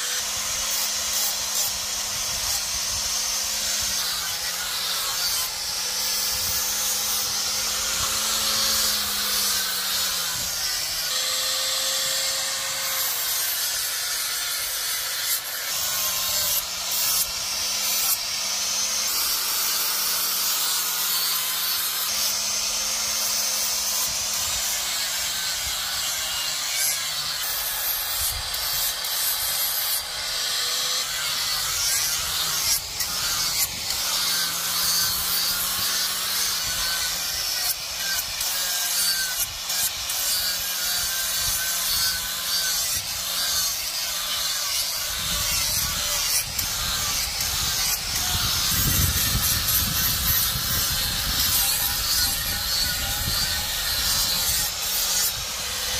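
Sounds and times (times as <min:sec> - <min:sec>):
angle grinder grinding steel: 0:00.0 - 0:55.9.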